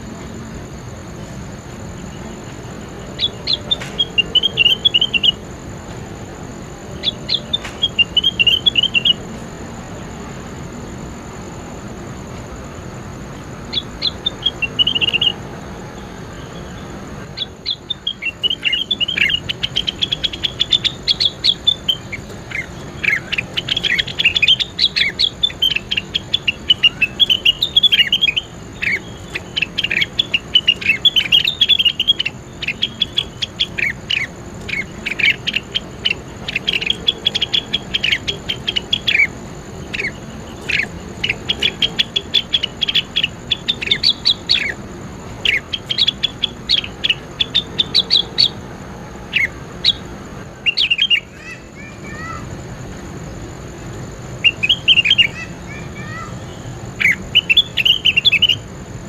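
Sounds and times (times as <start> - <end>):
soft bird chirps: 0.0 - 59.0.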